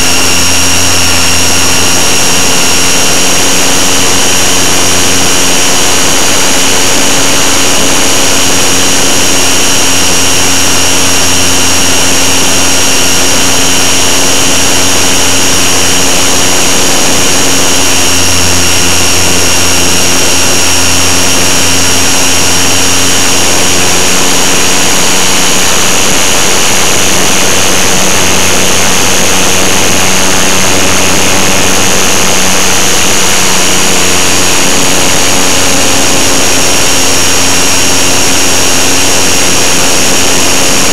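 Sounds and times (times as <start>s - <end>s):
electric motor propeller whine: 0.0s - 40.9s.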